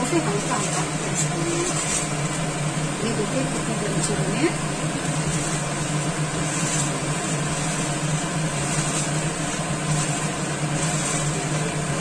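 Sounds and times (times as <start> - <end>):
fried noodles crackling: 0.0 - 12.0
mechanical hum: 0.0 - 12.0.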